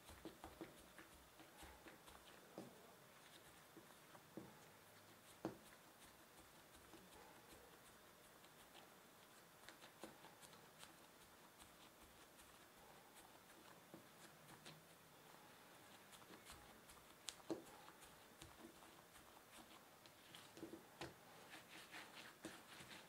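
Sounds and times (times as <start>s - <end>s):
hands rolling dough: 0.0s - 23.0s.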